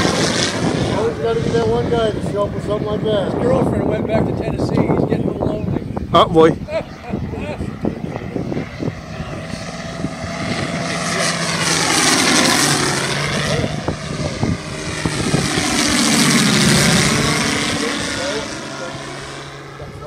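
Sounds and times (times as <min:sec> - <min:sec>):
model airplane flying past: 0:00.0 - 0:20.0.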